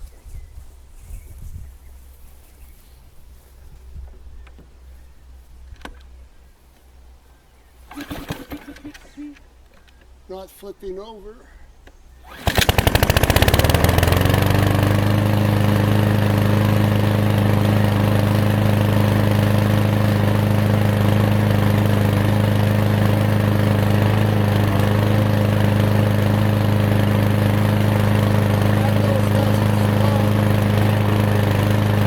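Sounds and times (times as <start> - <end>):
lawn mower engine starting and running: 3.4 - 6.9, 7.7 - 10.3, 11.8 - 32.0.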